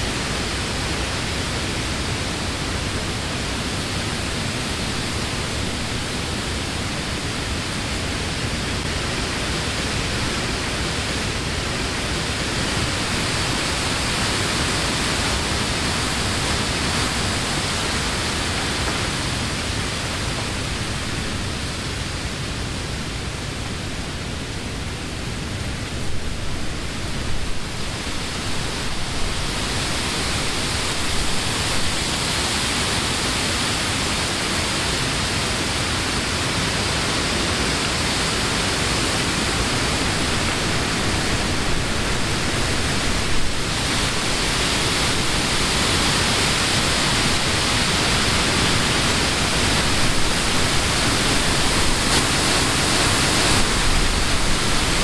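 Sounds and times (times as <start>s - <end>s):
wind rushing through leaves: 0.0s - 55.0s.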